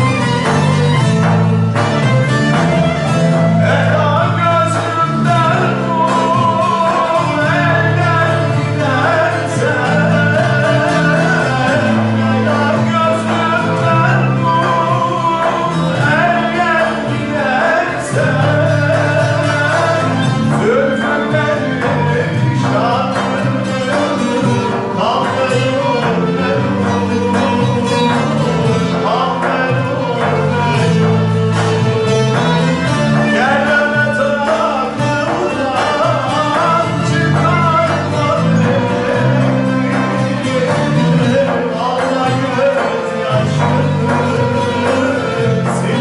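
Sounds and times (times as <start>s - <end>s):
bowed cello: 0.0s - 46.0s
long-necked lutes playing folk music: 0.0s - 46.0s
man singing: 0.0s - 46.0s.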